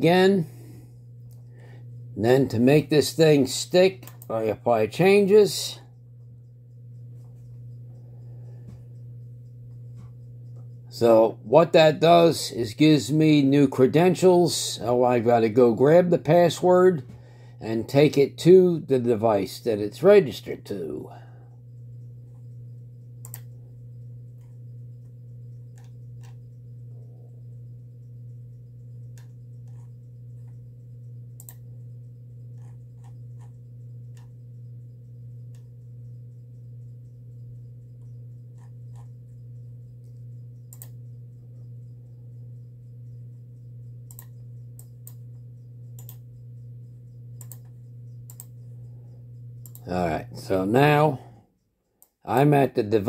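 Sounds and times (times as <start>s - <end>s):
low electrical hum: 0.0s - 53.0s.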